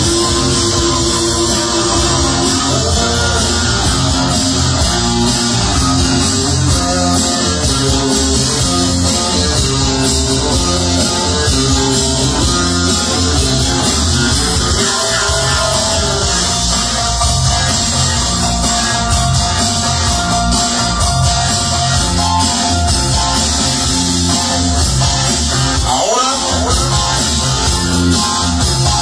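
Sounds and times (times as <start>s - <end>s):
loud dance music: 0.0s - 29.0s.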